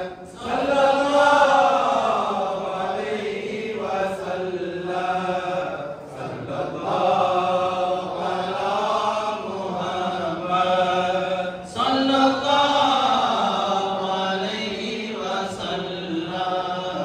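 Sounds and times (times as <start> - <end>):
men chanting: 0.0 - 17.0.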